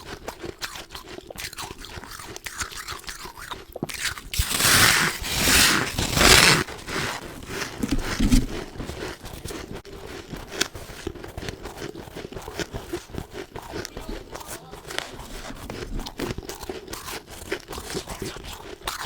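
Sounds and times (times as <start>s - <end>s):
chewing crunchy frost: 0.0s - 19.0s.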